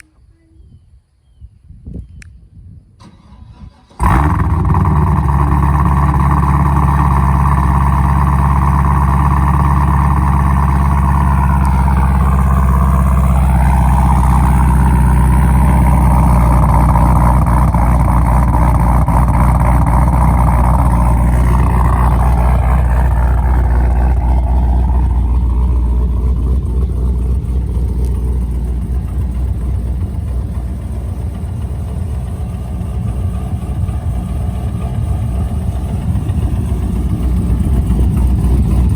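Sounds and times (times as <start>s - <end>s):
car engine fast idle: 3.0s - 38.9s
car engine starting: 3.0s - 38.9s.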